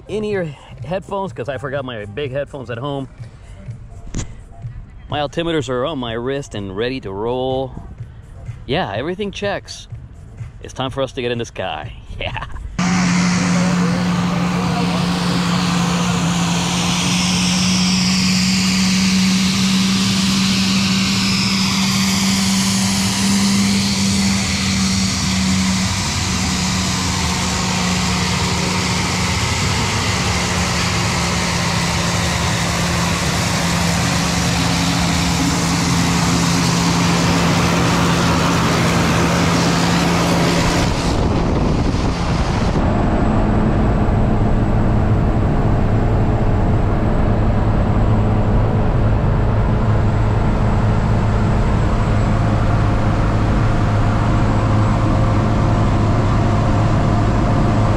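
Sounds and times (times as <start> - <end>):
engine drone inside cabin: 0.0 - 57.9
turboprop engine hum and hiss: 0.0 - 57.9.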